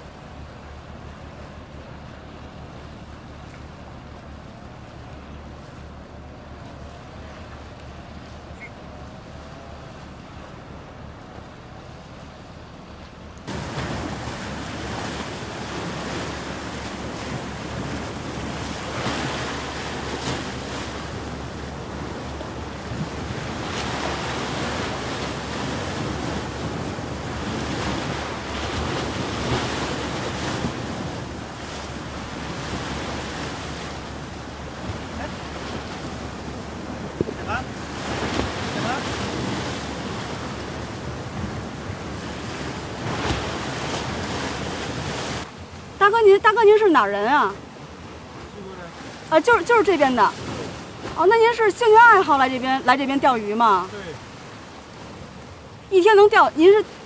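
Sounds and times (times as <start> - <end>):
surf washing over rocks: 0.0 - 57.0.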